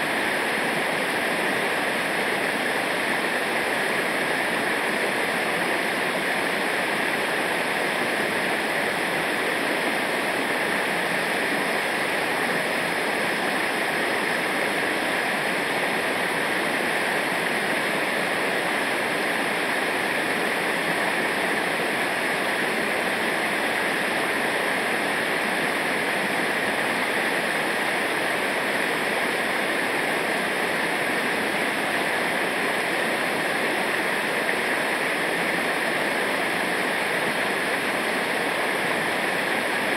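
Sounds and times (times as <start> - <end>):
river water over rapids: 0.0 - 39.9.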